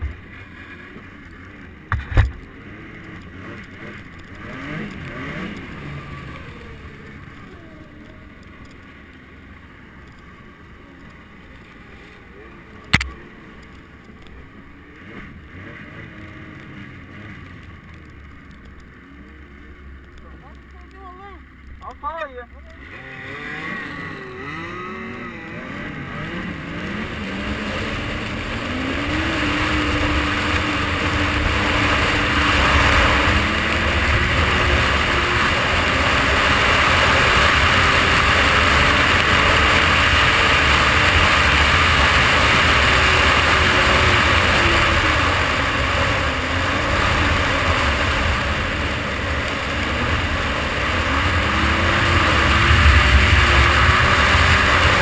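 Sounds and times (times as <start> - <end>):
snowmobile engine accelerating: 0.0 - 55.0.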